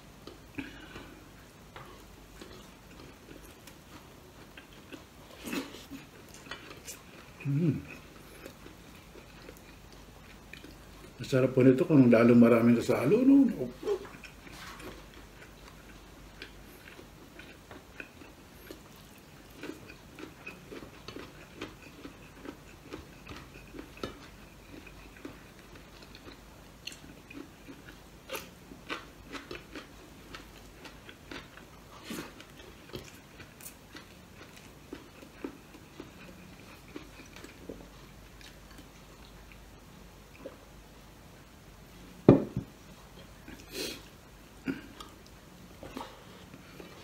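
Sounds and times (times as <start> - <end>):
person chewing food: 0.0 - 12.0, 13.0 - 41.0, 42.3 - 47.0.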